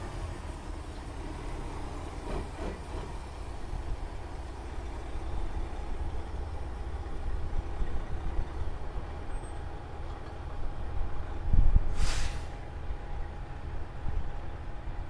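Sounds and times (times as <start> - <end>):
heavy truck engine rumbling: 0.0 - 15.0.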